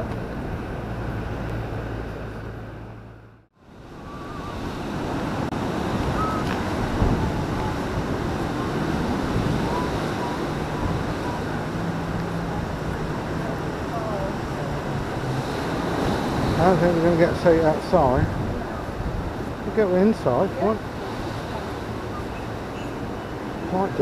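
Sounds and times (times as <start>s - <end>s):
rushing surf-like noise: 0.0s - 24.0s
wind buffeting microphone: 0.0s - 24.0s.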